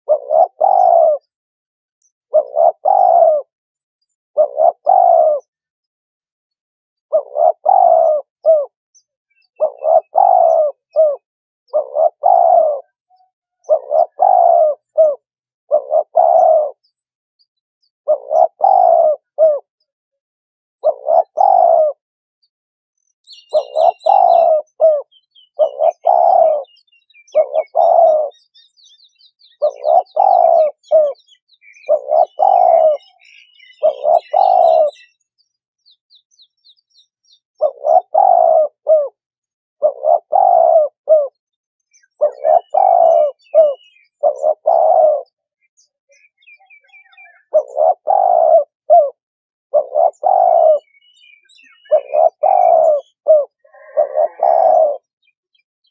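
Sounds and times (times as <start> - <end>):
dove cooing: 0.0 - 1.4, 2.2 - 3.5, 4.4 - 5.7, 7.1 - 8.8, 9.4 - 17.0, 18.1 - 19.9, 20.8 - 22.0, 23.3 - 35.2, 37.6 - 55.3
small bird chirping: 0.1 - 1.4, 2.0 - 19.9, 23.0 - 55.9.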